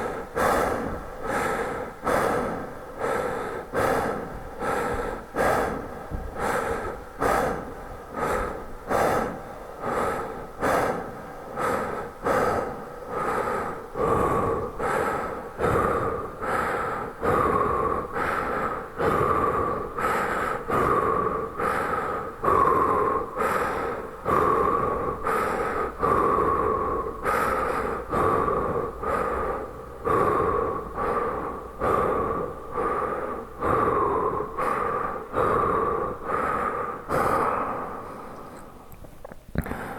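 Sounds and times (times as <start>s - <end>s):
man breathing with reverb: 0.0s - 39.9s.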